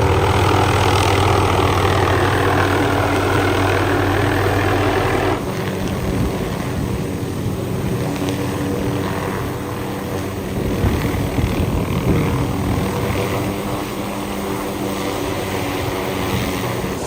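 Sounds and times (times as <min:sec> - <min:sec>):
helicopter engine and rotor: 0:00.0 - 0:17.0.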